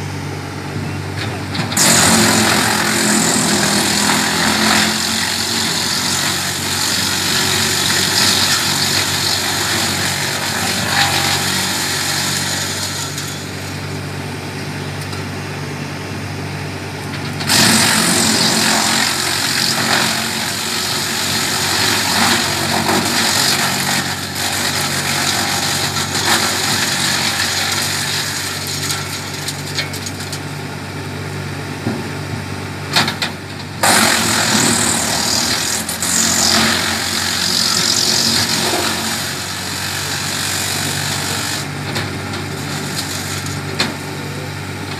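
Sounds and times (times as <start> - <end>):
tractor engine running: 0.0 - 44.9
wood chipper shredding branches: 0.0 - 44.9.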